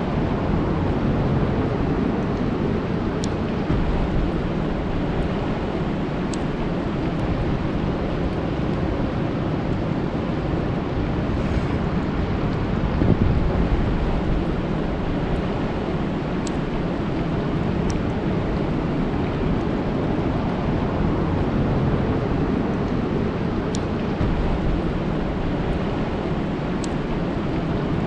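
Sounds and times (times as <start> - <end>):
rain falling on a lake: 0.0 - 11.0, 13.3 - 28.0.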